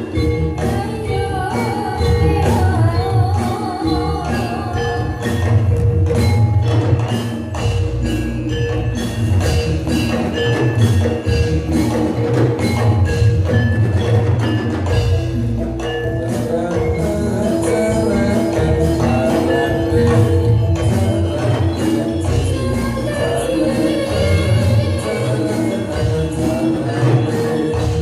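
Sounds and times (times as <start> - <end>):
drums: 0.0 - 28.0
metallophones and gongs ringing: 0.0 - 28.0
wavering melody line: 0.0 - 28.0.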